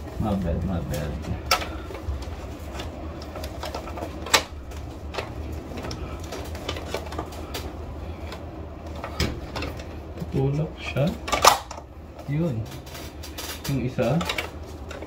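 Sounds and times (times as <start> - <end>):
blind headrail clicks and knocks: 0.0 - 15.0
steady low hum: 0.0 - 15.0.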